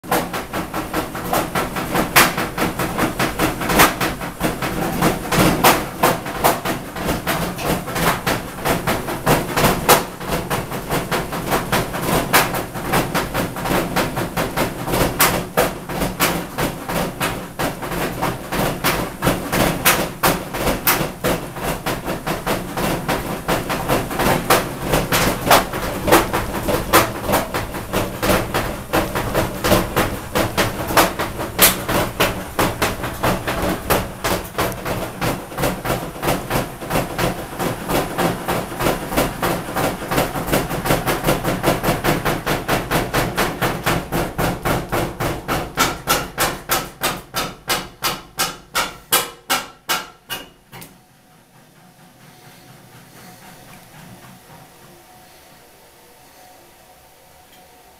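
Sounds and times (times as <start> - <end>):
washing machine knocking and banging: 0.0 - 55.2.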